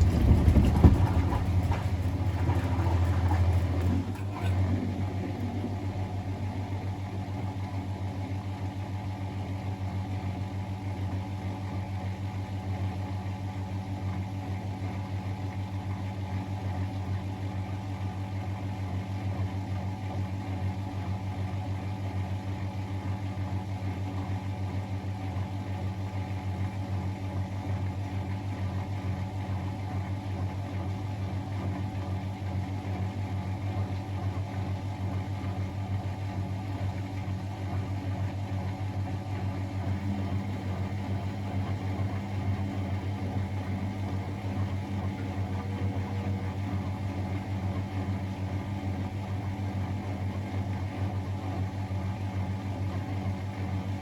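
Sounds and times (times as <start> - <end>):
washing machine humming: 0.0 - 17.2, 24.8 - 54.0.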